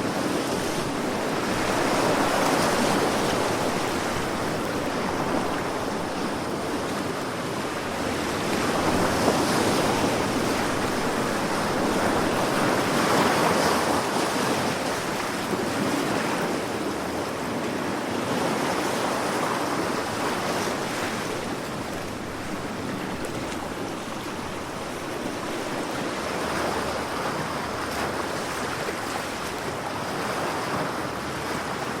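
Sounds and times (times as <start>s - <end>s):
sea waves breaking: 0.0s - 32.0s
wind: 0.0s - 32.0s.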